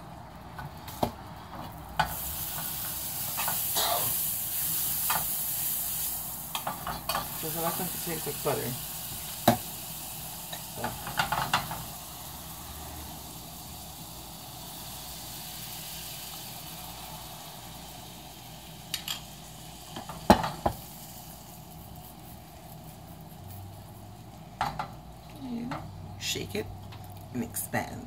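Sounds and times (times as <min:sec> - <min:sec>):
butter sizzling in a frying pan: 0:00.6 - 0:27.7.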